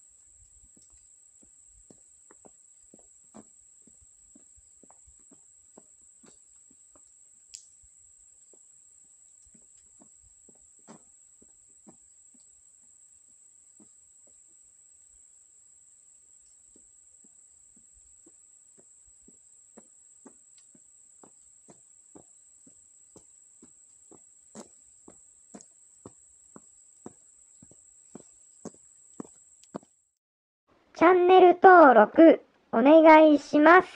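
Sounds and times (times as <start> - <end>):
insects droning: 0.0 - 30.0
footsteps on wet asphalt: 0.6 - 14.6, 16.2 - 30.0.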